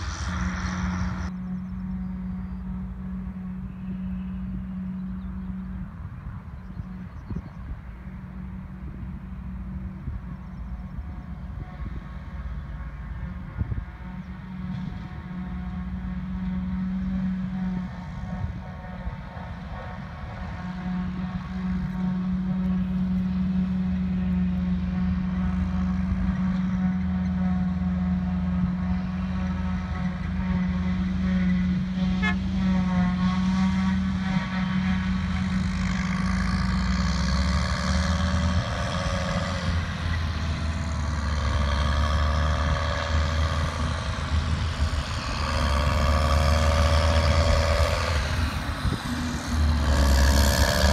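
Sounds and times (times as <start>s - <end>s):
diesel machinery humming: 0.0s - 50.9s.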